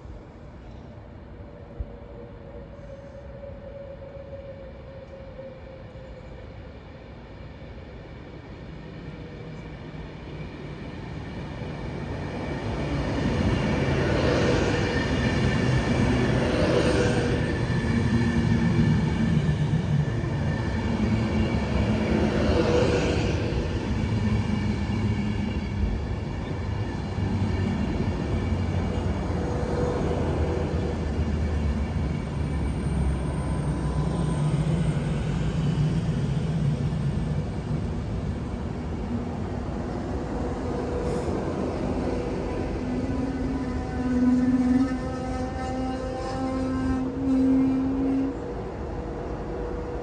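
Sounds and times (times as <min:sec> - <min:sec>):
electric train rumbling: 0:00.0 - 0:50.0.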